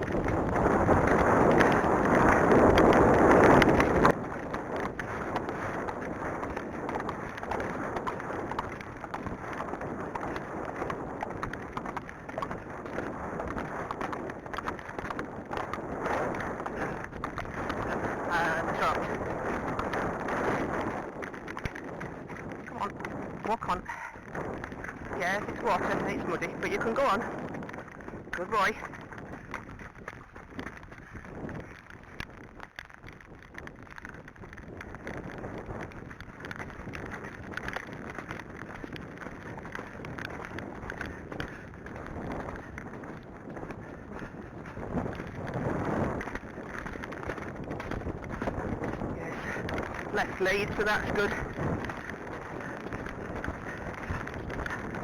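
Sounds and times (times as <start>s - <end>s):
hooves splashing through muddy water: 0.0s - 55.0s
steady rain: 0.0s - 55.0s
wind buffeting microphone: 0.0s - 55.0s.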